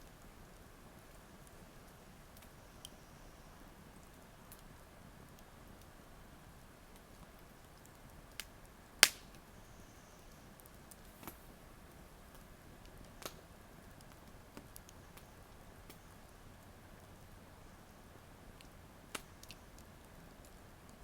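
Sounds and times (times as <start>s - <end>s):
campfire crackling and popping: 0.0s - 21.0s
faint low hiss: 0.0s - 21.0s.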